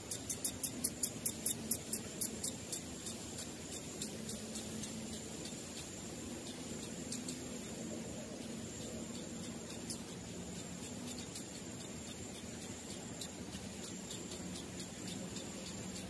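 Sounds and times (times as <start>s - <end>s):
steady high buzz: 0.0s - 16.0s.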